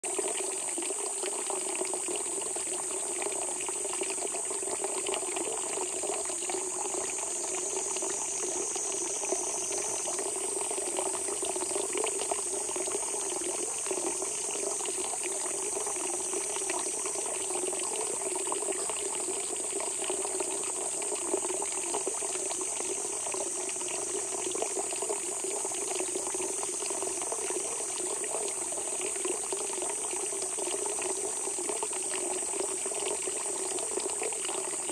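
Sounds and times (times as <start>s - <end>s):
spring water gushing: 0.0s - 34.9s.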